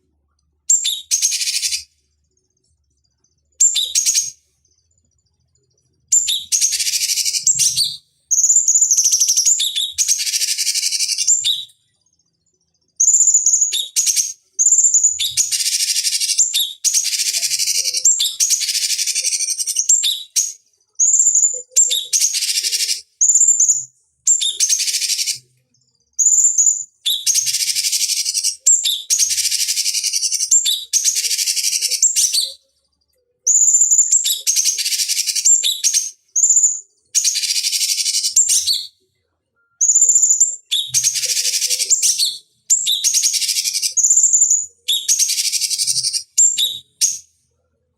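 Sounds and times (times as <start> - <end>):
bird singing with whistles and chattering: 0.7 - 1.9, 3.6 - 4.4, 6.1 - 11.8, 13.0 - 25.5, 26.2 - 32.7, 33.4 - 39.0, 39.6 - 47.3.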